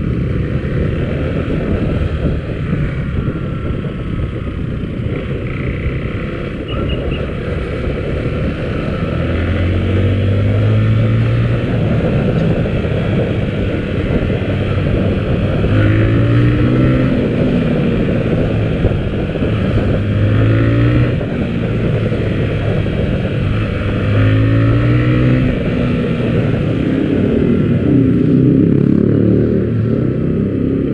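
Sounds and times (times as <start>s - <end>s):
motorcycle engine accelerating: 0.0s - 30.9s
wind and road noise: 0.0s - 30.9s.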